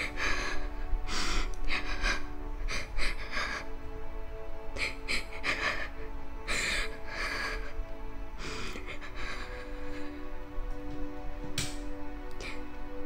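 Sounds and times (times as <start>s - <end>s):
low droning background music: 0.0s - 13.0s.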